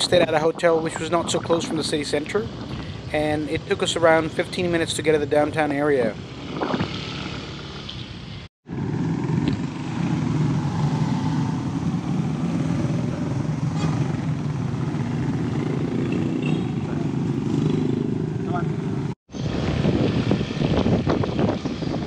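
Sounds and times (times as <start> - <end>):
road traffic noise: 0.0 - 22.0
motorcycle engines running: 1.3 - 22.0.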